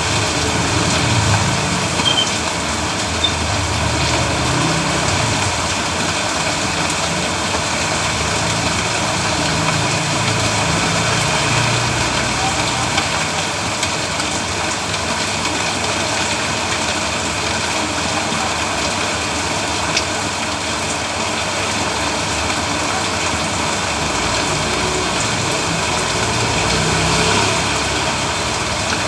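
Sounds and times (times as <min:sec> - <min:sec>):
heavy rain on road: 0:00.0 - 0:29.0.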